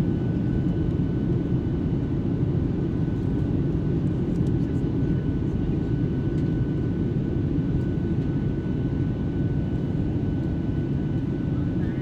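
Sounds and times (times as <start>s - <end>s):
airliner engine roar: 0.0s - 12.0s.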